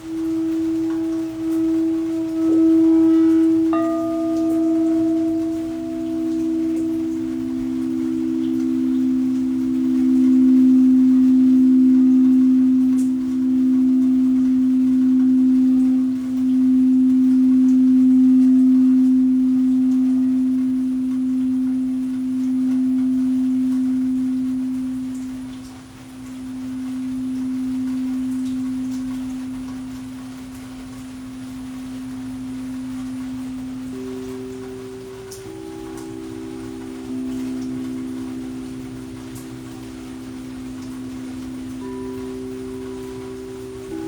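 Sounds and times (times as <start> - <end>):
singing bowl ringing: 0.0 - 44.0.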